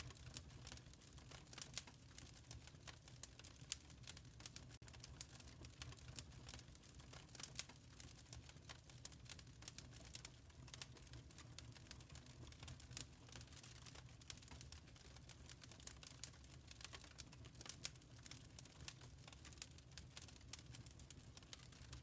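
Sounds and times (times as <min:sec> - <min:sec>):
faint wood fire crackling: 0:00.0 - 0:22.0.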